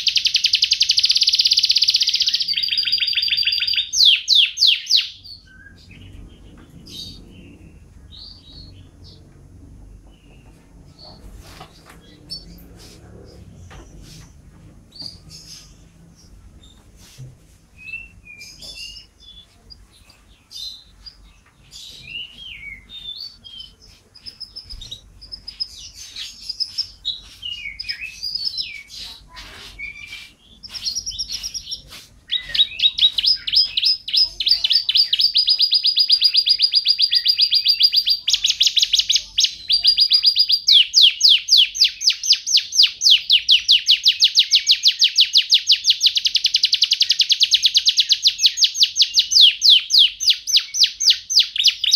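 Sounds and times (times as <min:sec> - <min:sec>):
canary singing: 0:00.0 - 0:16.8, 0:17.7 - 0:51.9.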